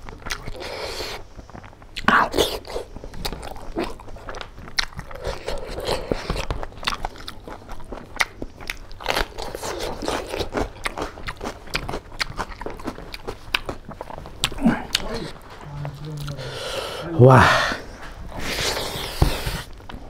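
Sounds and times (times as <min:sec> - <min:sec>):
crunches and clicks of chewing: 0:00.0 - 0:16.5
man chewing food: 0:00.0 - 0:20.0.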